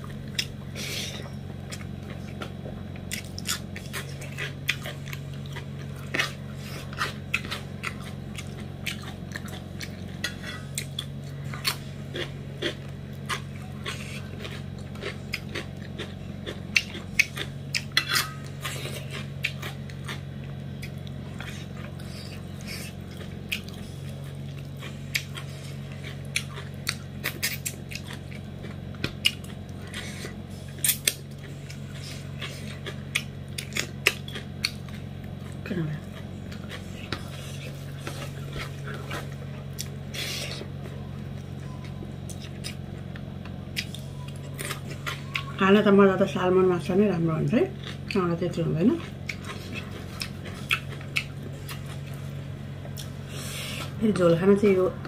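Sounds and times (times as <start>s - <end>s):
person chewing food: 0.0s - 45.9s, 47.7s - 48.2s, 49.0s - 54.0s
steady low hum: 0.0s - 55.0s.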